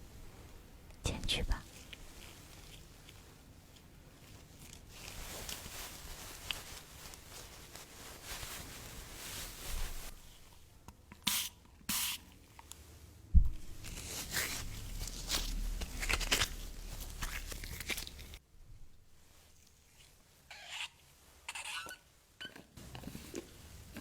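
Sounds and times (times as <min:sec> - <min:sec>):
rustling and scraping objects: 0:01.5 - 0:10.7, 0:11.9 - 0:24.0.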